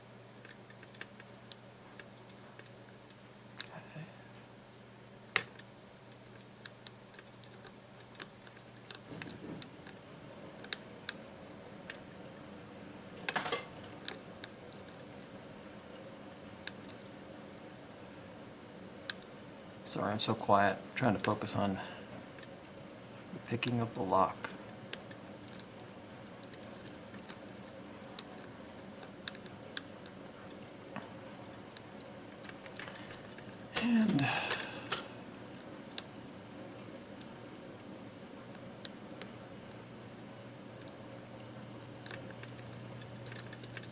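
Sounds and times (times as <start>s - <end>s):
low background hum: 0.0s - 43.9s.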